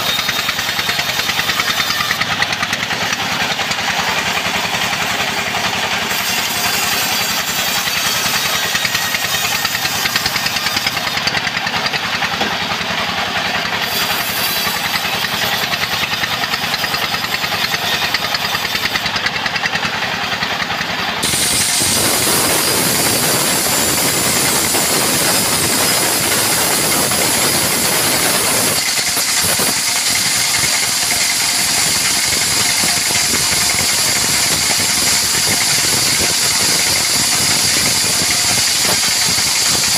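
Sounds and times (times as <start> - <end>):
band sawmill running: 0.0 - 39.9
saw blade cutting wood: 0.0 - 39.9.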